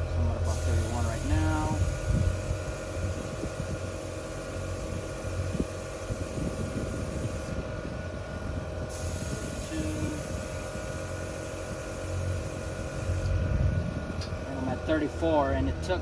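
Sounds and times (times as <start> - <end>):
air compressor whining: 0.0 - 16.0.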